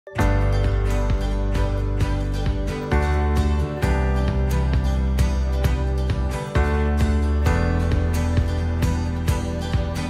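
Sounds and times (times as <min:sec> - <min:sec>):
background music with steady beat: 0:00.2 - 0:10.0.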